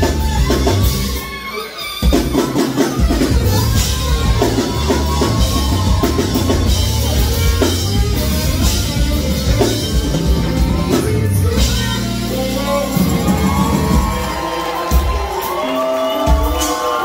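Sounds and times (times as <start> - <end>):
bass: 0.0 - 15.6
drum kit: 0.0 - 17.0
saxophone: 0.0 - 17.0.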